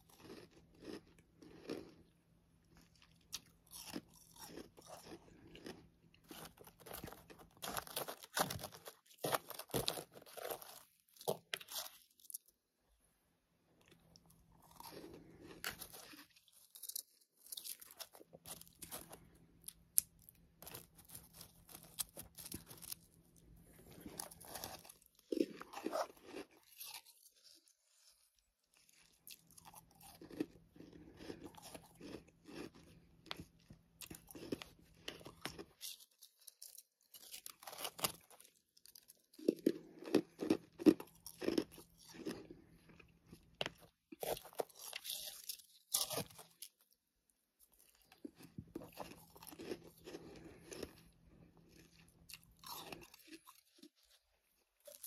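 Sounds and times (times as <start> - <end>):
person chewing crunchy frost: 0.0 - 12.6, 13.8 - 47.0, 47.6 - 55.0.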